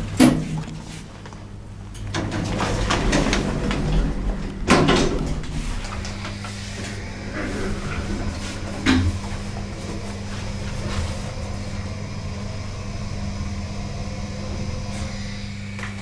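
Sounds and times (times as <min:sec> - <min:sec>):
lift motor hum: 0:00.0 - 0:16.0.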